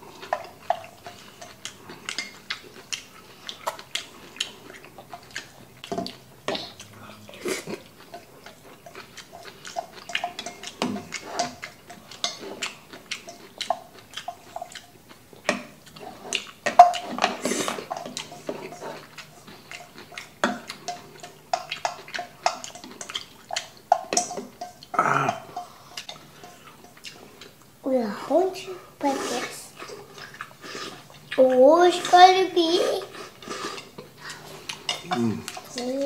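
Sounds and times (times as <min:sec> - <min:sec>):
wet chewing and slurping: 0:00.0 - 0:36.0.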